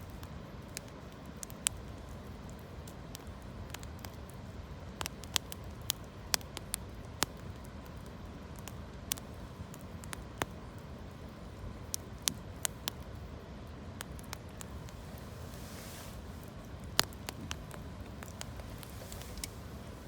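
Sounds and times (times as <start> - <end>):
campfire crackling: 0.0 - 20.0
steady background hiss: 0.0 - 20.0.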